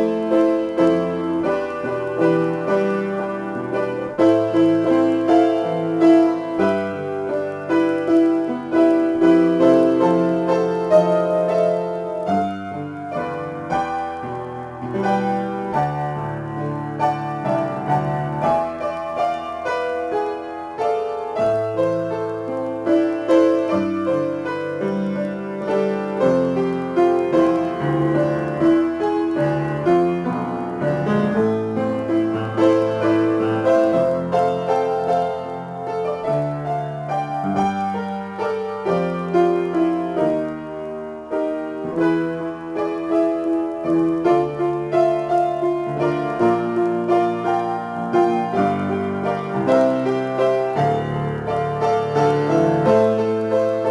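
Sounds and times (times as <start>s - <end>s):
solo piano improvisation: 0.0s - 53.9s.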